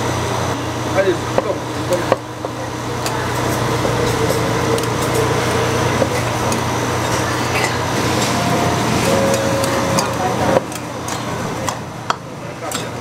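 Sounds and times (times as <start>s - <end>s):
loud rushing noise with hum: 0.0s - 12.6s.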